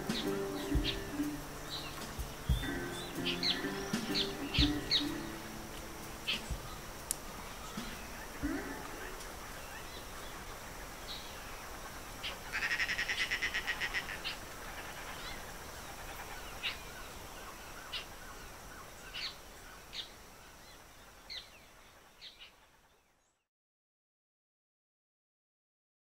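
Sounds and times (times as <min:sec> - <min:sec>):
birds calling: 0:00.0 - 0:22.6
steady hiss: 0:00.0 - 0:22.9.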